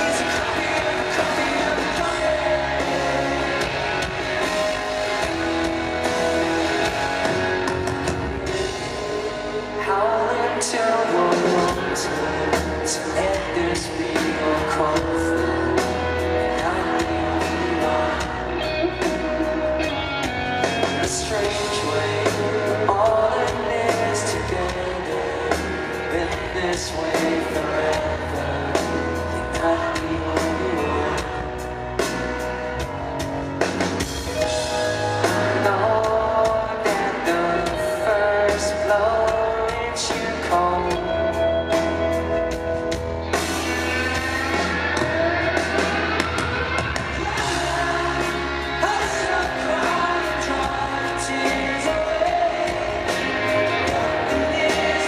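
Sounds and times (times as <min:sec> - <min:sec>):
man singing into microphone: 0:00.0 - 0:04.1, 0:09.6 - 0:20.0, 0:20.7 - 0:31.6, 0:34.4 - 0:42.0, 0:43.9 - 0:55.0
bass: 0:00.0 - 0:55.0
electric guitar: 0:00.0 - 0:55.0.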